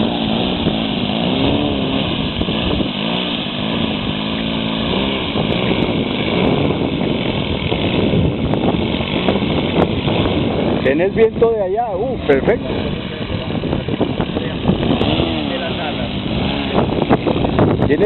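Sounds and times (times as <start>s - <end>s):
model plane engine running: 0.0s - 18.0s.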